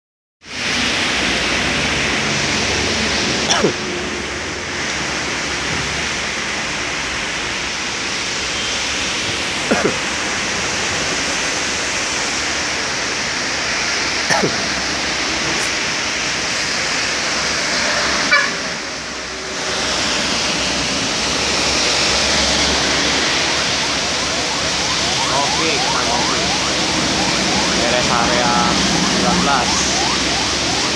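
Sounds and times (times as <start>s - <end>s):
rain falling: 0.5s - 30.9s.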